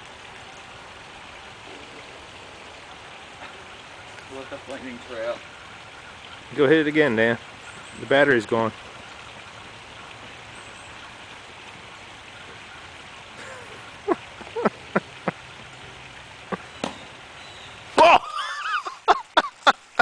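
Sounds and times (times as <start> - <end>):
outdoor hiss: 0.0 - 20.0.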